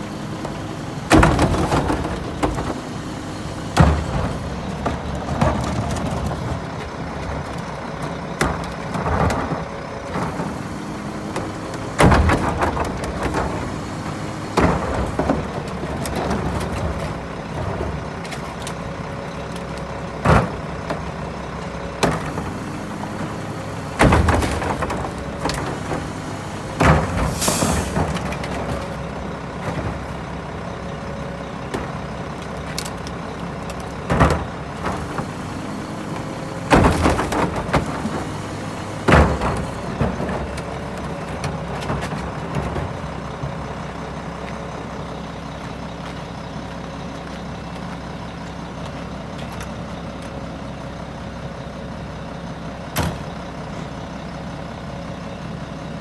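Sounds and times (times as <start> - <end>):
trash carts banging on steel: 0.0 - 45.4
diesel engine idling: 0.0 - 56.0.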